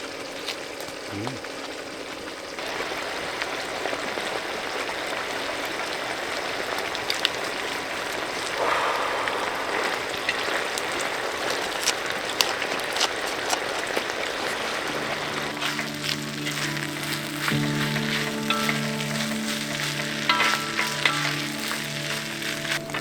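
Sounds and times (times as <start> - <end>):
fire pops and crackles: 0.0 - 23.0
firewood burning hiss: 0.0 - 23.0.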